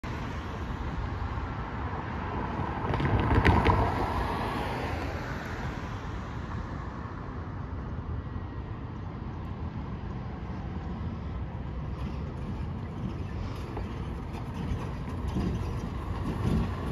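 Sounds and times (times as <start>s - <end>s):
car passing: 0.0s - 16.9s
steady low traffic rumble: 0.0s - 16.9s.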